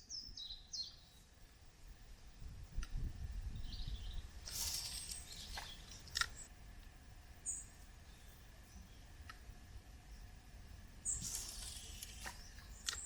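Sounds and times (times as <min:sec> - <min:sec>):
small birds chirping: 0:00.0 - 0:01.4, 0:02.8 - 0:06.5, 0:07.4 - 0:13.0.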